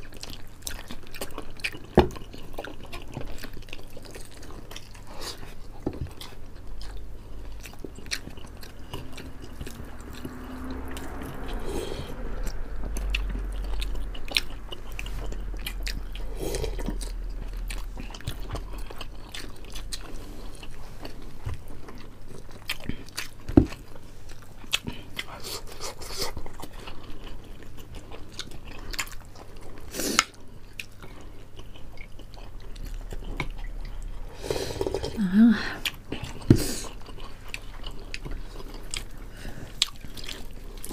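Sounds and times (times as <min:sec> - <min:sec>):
food crunching: 0:00.0 - 0:40.9
people chewing food: 0:00.0 - 0:40.9.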